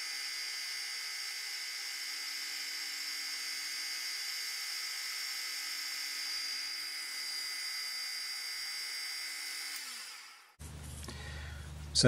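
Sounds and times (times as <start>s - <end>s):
lathe whining: 0.0s - 10.6s.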